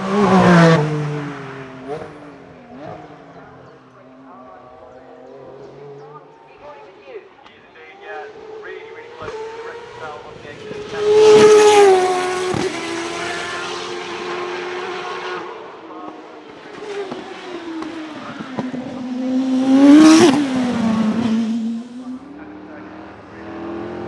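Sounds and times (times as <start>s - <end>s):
race car engine passing by: 0.0s - 3.9s, 7.9s - 24.0s.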